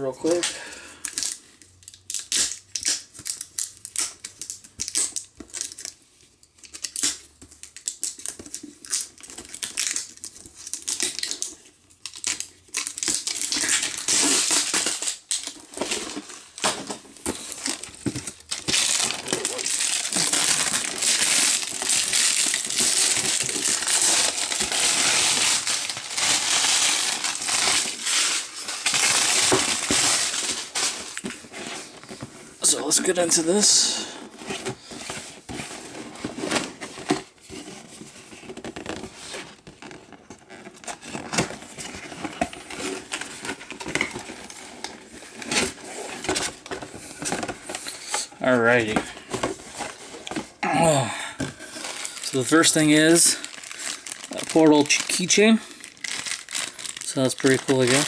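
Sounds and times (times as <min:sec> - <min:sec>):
packaging crinkling and tearing: 0:00.2 - 0:58.0.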